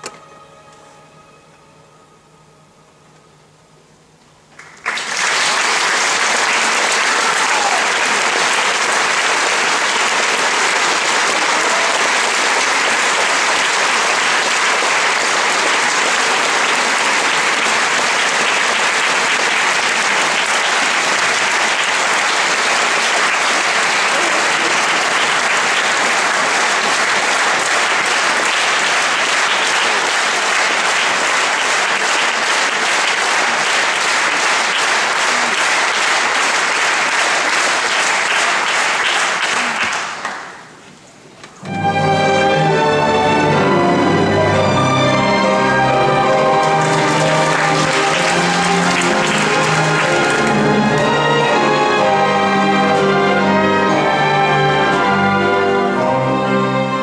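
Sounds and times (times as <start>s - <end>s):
large audience applauding: 4.5s - 40.8s, 42.2s - 56.0s.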